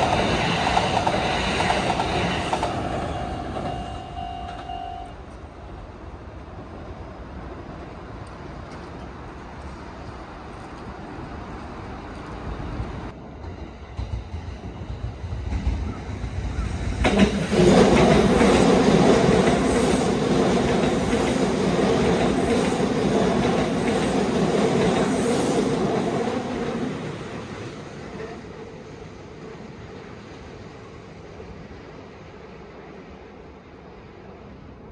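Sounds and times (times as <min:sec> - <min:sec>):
electric train passing: 0:00.0 - 0:34.9.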